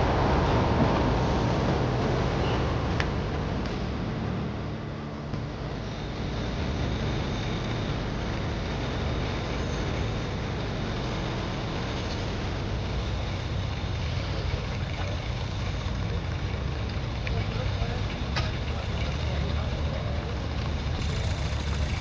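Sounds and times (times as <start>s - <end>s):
tractor engine running: 3.3s - 22.0s.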